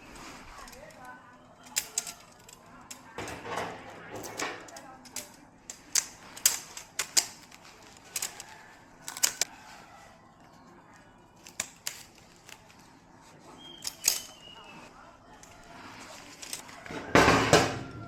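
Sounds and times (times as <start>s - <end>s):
hard objects clicking: 0.0s - 9.5s, 11.4s - 12.9s, 13.6s - 14.6s, 15.4s - 18.0s.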